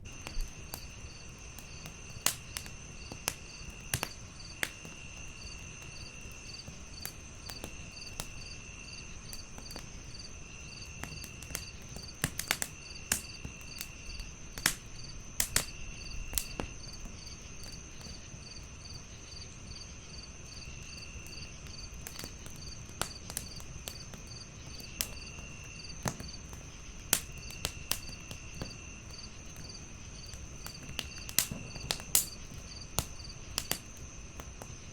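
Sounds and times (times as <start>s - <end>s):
crickets chirping: 0.0s - 34.9s
wood fire crackling: 0.0s - 34.9s.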